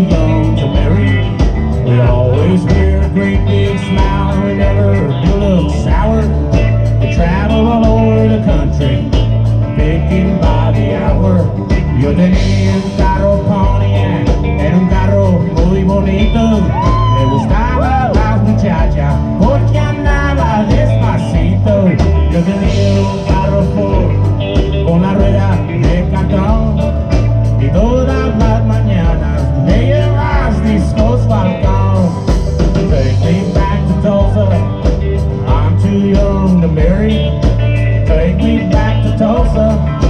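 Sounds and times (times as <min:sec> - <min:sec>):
upbeat country song: 0:00.0 - 0:40.0.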